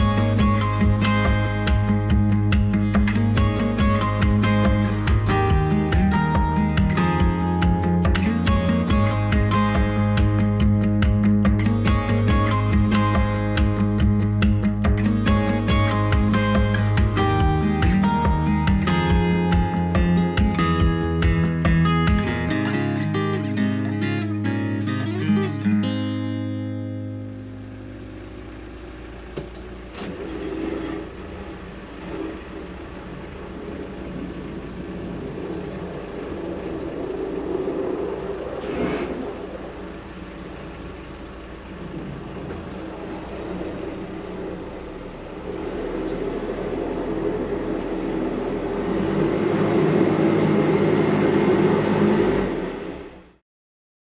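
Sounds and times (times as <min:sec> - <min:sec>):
engine rumbling: 0:00.0 - 0:25.6, 0:27.1 - 0:53.4.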